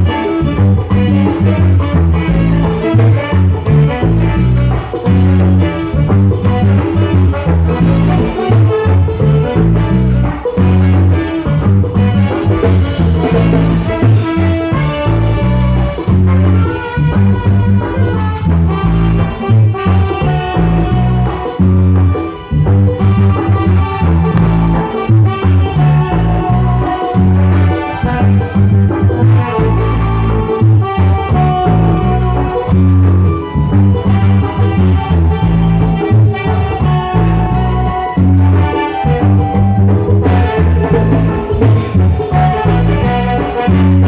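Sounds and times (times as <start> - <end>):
congas: 0.0 - 44.0
drum kit: 0.0 - 44.0
heavy bass line: 0.0 - 44.0
horn section and flute melody: 0.0 - 44.0
live reggae band playing: 0.0 - 44.0
saxophones: 0.0 - 44.0
trumpets: 0.0 - 44.0.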